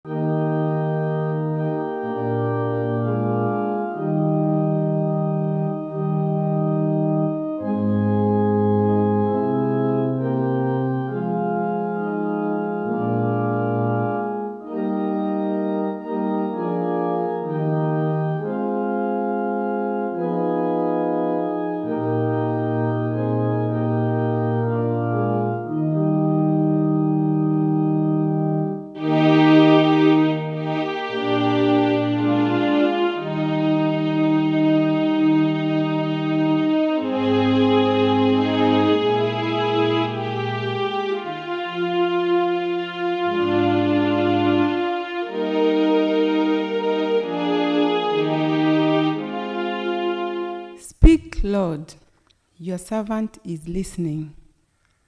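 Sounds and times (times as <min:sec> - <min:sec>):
organ playing sustained chords: 0:00.0 - 0:50.9.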